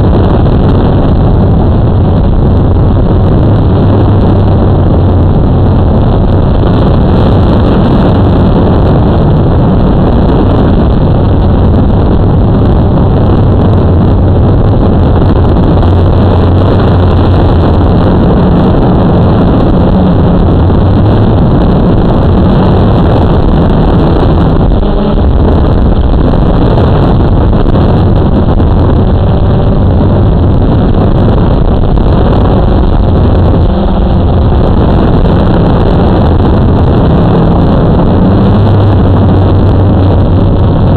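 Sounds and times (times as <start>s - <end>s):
wind noise on microphone: 0.0s - 40.9s.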